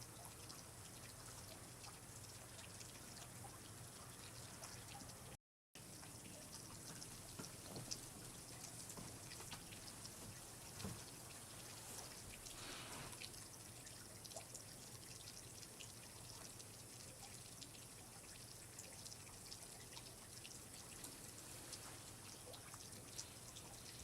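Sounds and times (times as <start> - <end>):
low steady hiss: 0.0 - 24.0
water dripping and trickling: 0.0 - 24.0.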